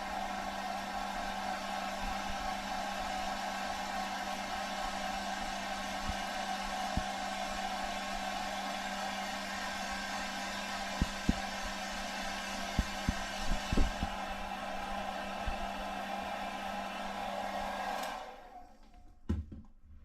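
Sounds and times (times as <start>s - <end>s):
electric blower motor whirring: 0.1s - 18.9s.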